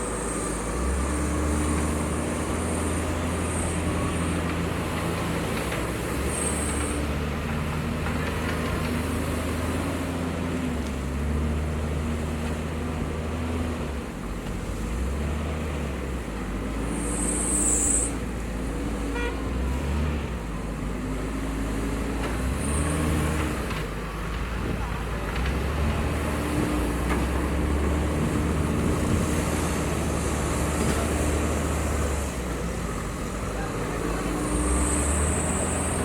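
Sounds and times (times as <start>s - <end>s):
heavy machinery diesel engine revving: 0.0s - 36.0s.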